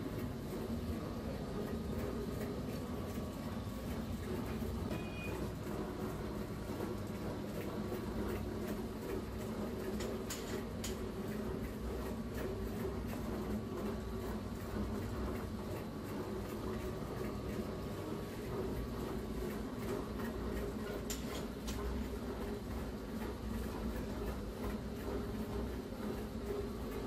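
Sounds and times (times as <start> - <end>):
dough machine ticks and clatter: 0.0 - 27.0.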